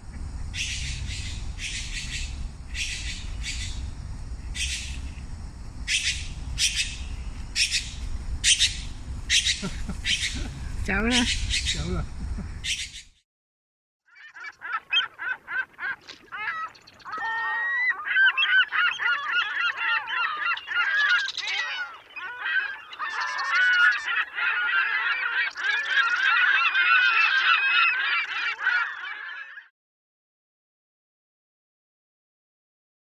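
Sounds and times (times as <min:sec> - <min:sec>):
magpies calling harshly: 0:00.5 - 0:03.9, 0:04.5 - 0:05.1, 0:05.9 - 0:13.1, 0:14.1 - 0:29.7.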